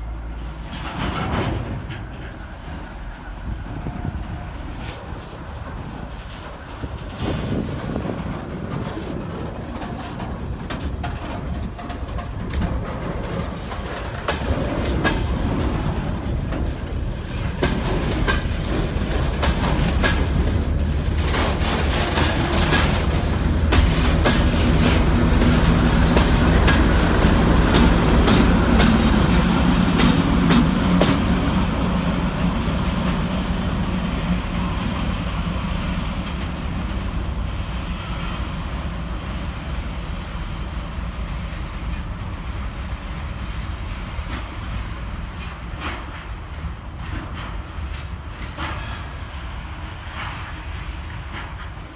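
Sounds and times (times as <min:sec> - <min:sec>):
diesel locomotive engine running: 0:00.0 - 0:51.9
train wheels clacking over rail joints: 0:00.5 - 0:39.3, 0:41.4 - 0:51.9.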